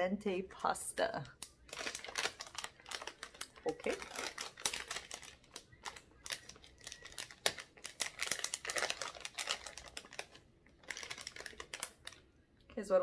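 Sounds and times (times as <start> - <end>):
candy packet crinkling: 1.2 - 12.6.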